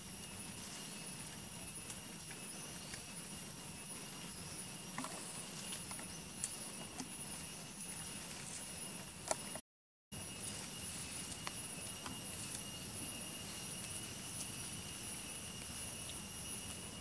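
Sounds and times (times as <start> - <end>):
monkeys rustling dry leaves: 0.0 - 9.2, 10.2 - 17.0
insects droning: 0.0 - 17.0.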